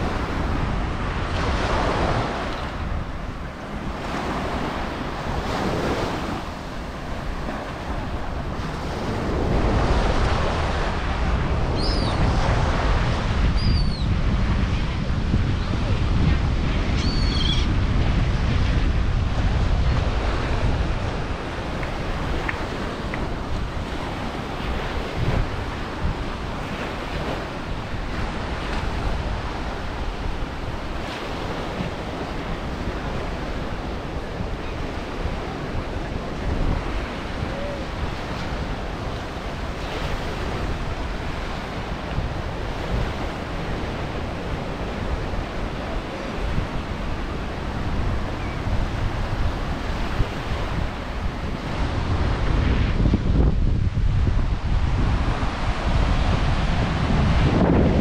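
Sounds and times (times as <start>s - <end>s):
ocean surf washing ashore: 0.0s - 58.0s
wind rumbling on microphone: 0.0s - 58.0s.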